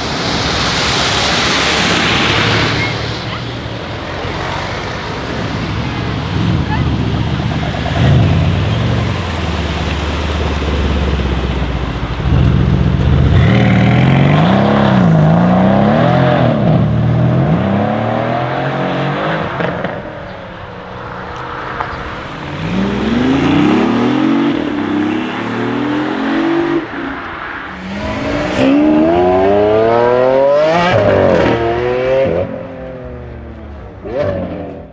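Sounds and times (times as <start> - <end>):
car engine rumbling and accelerating: 0.0 - 34.9.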